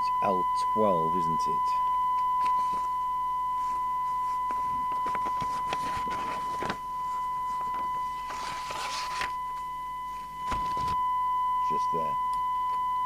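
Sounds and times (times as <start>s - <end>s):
steady test tone from radio: 0.0s - 13.0s.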